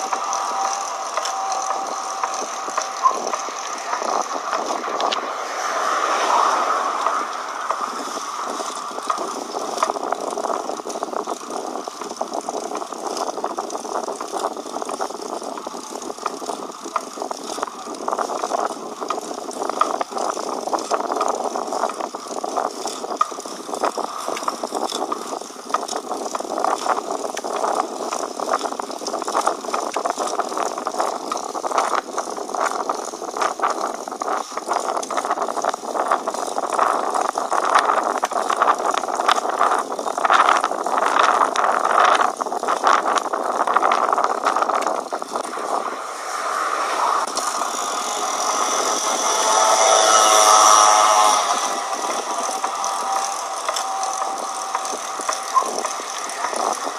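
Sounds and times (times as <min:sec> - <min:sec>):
bicycle drivetrain clicking: 0:00.0 - 0:56.9.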